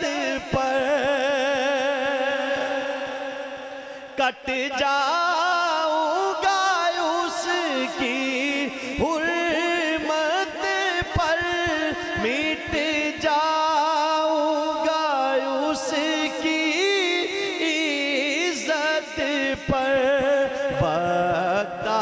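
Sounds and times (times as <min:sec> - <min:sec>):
man singing into a microphone: 0:00.0 - 0:22.0.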